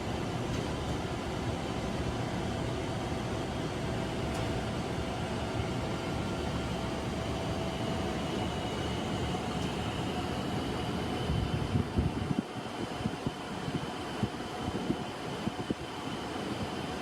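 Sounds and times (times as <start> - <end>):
cockpit airflow and engine roar: 0.0 - 17.0.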